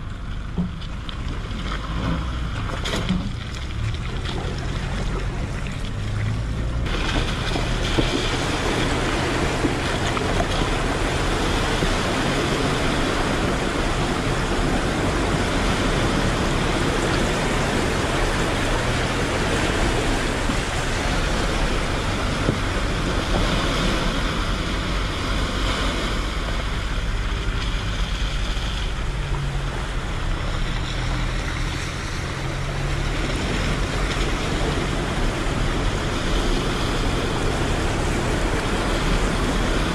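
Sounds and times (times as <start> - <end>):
diesel engine running: 0.0 - 39.9
water splashing around wheels: 0.0 - 39.9.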